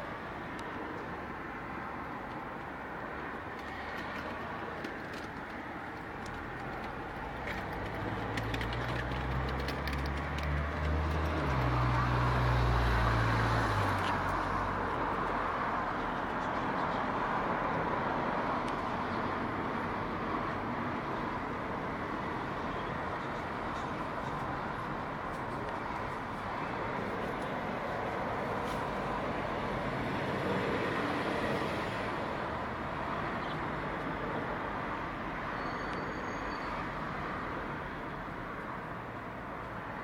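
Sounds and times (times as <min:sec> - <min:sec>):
street traffic rumble: 0:00.0 - 0:40.0.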